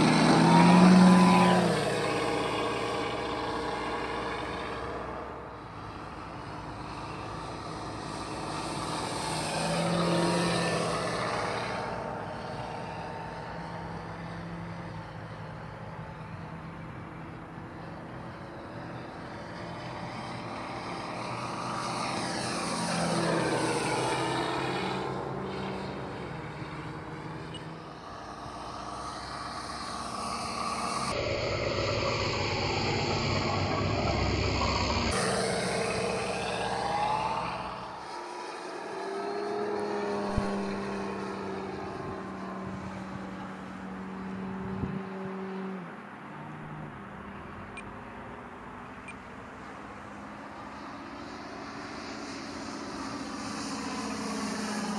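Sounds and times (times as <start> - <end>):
electric motor and propeller: 0.0 - 45.2, 50.6 - 54.9
model plane engine sound passing: 0.0 - 46.0, 49.0 - 54.9.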